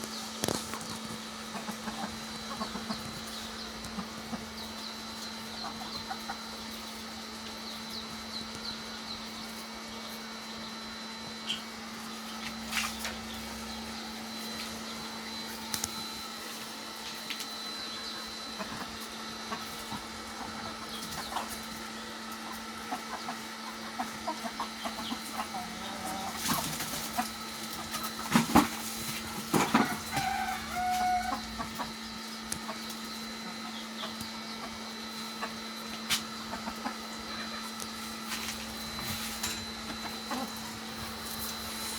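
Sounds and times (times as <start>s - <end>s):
chickens clucking: 0.0s - 41.9s
steady low hum: 0.0s - 41.9s.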